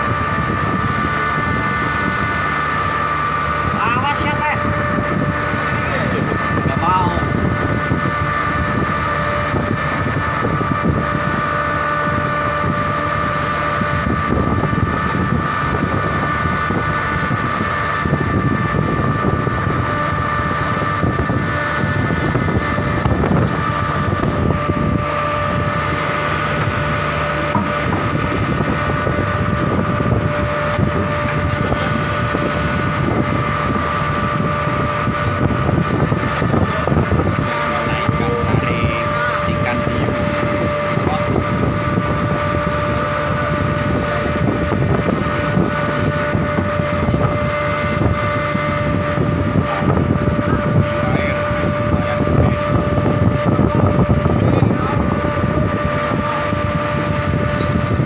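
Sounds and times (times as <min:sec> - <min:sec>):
boat engine rumble and whine: 0:00.0 - 0:58.0.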